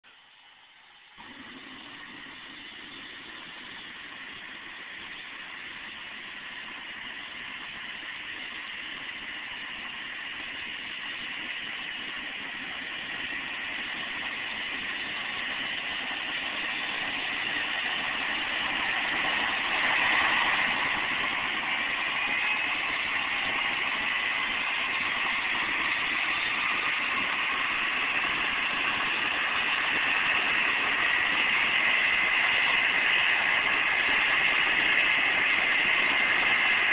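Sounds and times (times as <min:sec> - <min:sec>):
helicopter turbine spooling up: 0:01.2 - 0:36.9.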